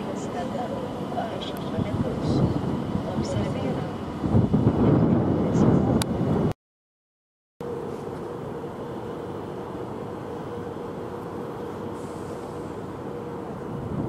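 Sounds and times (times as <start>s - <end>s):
electric train humming: 0.0s - 6.5s, 7.6s - 14.0s.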